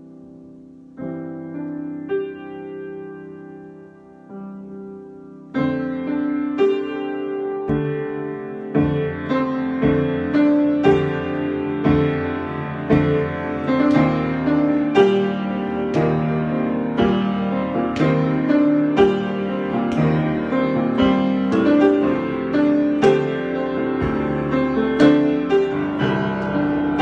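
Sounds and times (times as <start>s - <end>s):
solo piano chords: 0.0s - 27.0s.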